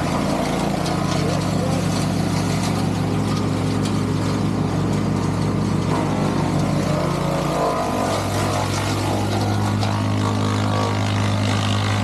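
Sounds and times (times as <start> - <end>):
wood chipper engine running: 0.0 - 12.0.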